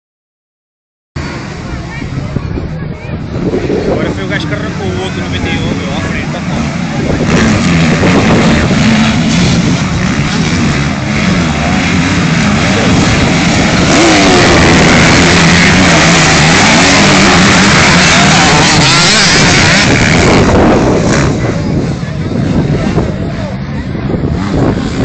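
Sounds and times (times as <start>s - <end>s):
motocross bikes racing: 1.2s - 25.0s.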